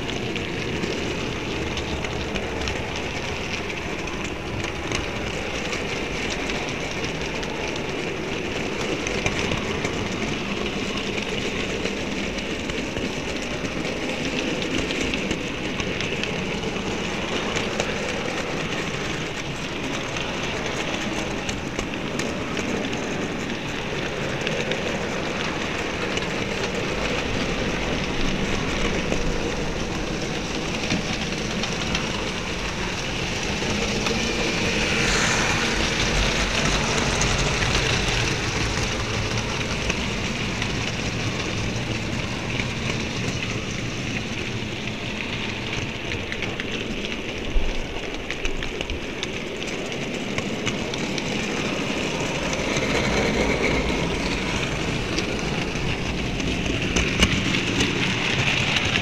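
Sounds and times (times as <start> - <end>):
model train rattling: 0.0 - 59.0
wheels clicking on track: 0.0 - 59.0.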